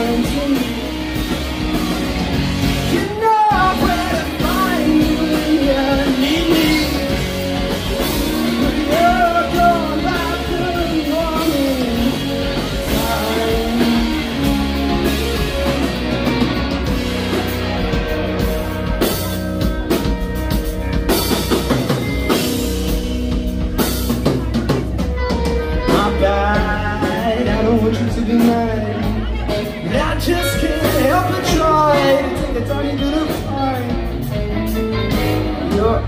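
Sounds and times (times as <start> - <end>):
drum kit: 0.0 - 36.0
electric bass: 0.0 - 36.0
electric guitars: 0.0 - 36.0.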